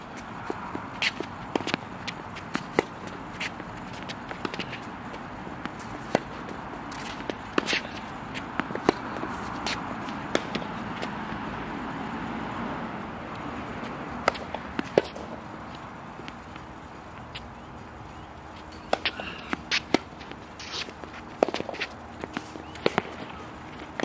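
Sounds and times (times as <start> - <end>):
tennis balls struck and bouncing: 0.0 - 12.2, 13.2 - 24.0
outdoor background hum: 0.0 - 24.0.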